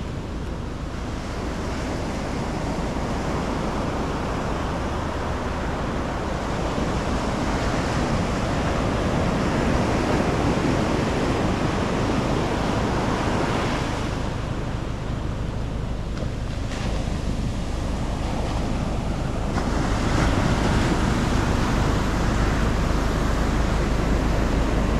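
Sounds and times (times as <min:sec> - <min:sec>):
ocean waves breaking on beach: 0:00.0 - 0:24.9
wind rumbling on microphone: 0:00.0 - 0:24.9.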